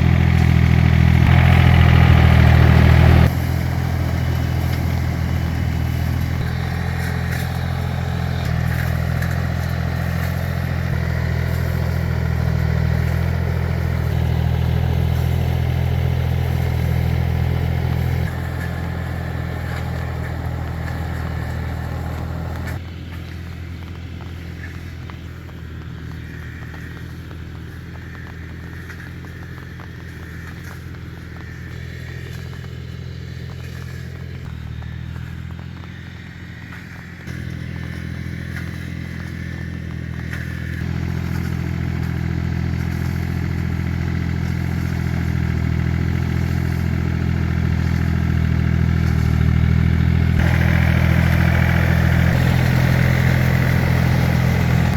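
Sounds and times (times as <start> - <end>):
diesel tractor engine running: 0.0 - 54.9.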